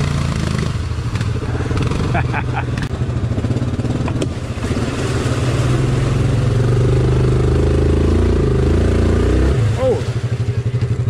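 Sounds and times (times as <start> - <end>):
quad engine under throttle: 0.0 - 11.0.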